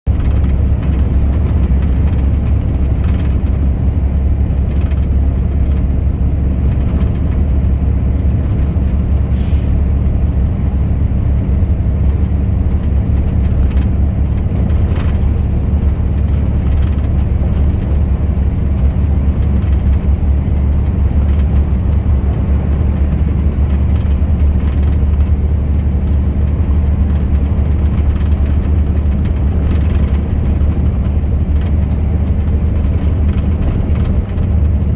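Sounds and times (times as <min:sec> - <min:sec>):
truck engine and road noise: 0:00.0 - 0:34.9
faint rattles: 0:00.1 - 0:34.9.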